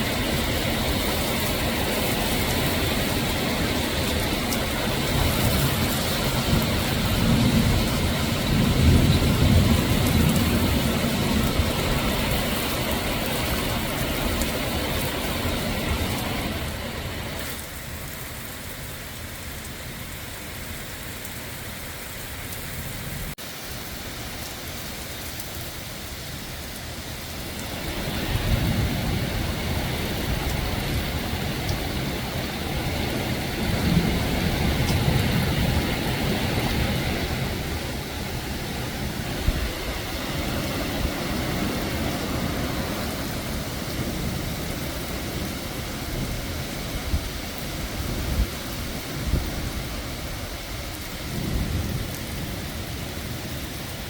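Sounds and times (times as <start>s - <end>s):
torrential rain: 0.0s - 54.0s
wind: 0.0s - 54.0s.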